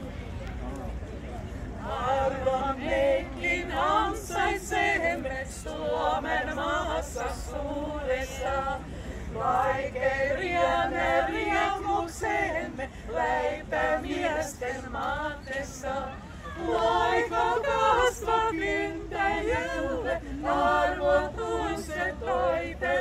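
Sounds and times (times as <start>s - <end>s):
women singing a cappella: 1.8s - 23.0s.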